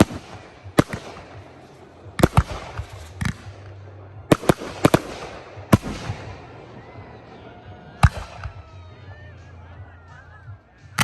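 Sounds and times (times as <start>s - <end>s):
fireworks bangs: 0.0s - 9.1s
fireworks crackling: 0.0s - 11.0s.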